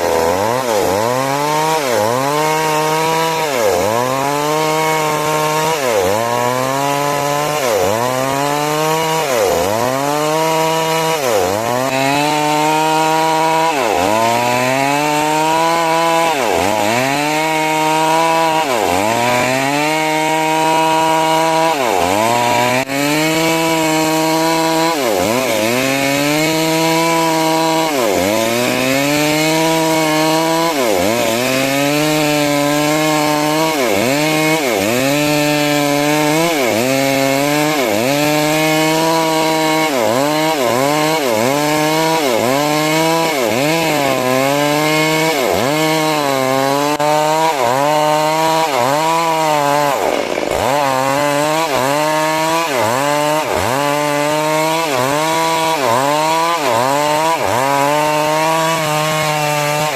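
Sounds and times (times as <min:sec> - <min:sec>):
chainsaw cutting timber: 0:00.0 - 0:59.9.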